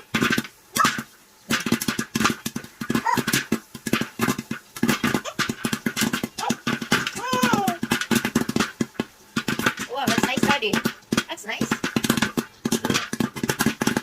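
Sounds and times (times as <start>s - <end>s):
popcorn popping: 0.0s - 14.0s.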